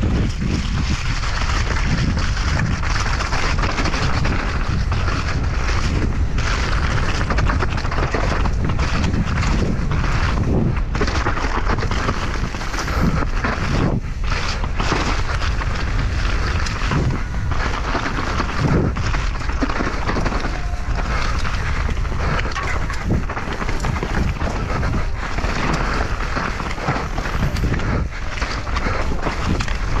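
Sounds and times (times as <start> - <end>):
mountain bike rattling: 0.0 - 30.0
wind on microphone: 0.0 - 30.0.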